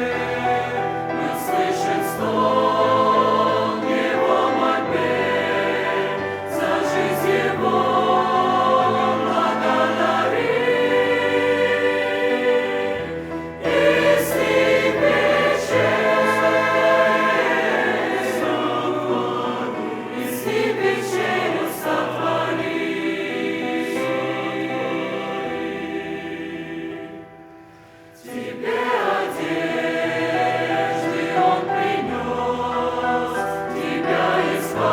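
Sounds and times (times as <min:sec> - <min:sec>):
choir singing a hymn: 0:00.0 - 0:34.9.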